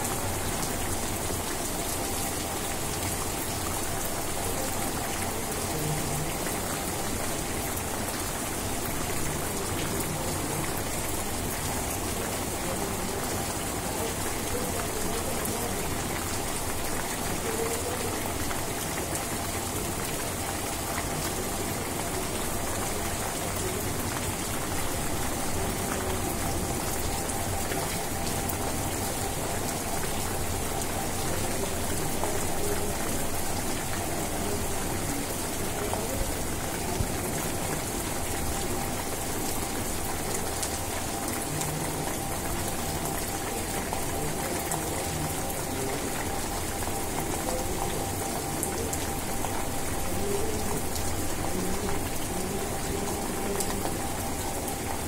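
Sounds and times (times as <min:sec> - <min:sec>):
rain pattering on grass: 0:00.0 - 0:55.0.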